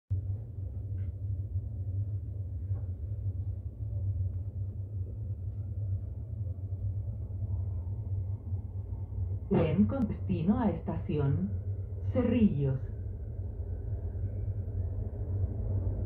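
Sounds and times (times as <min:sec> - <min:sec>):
train wheels rumbling in tunnel: 0:00.1 - 0:16.0.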